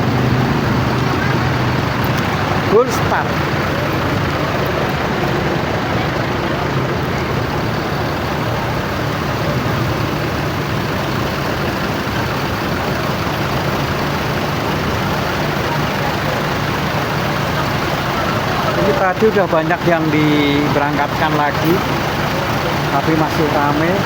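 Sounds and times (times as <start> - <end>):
diesel bus engines idling: 0.0 - 24.0.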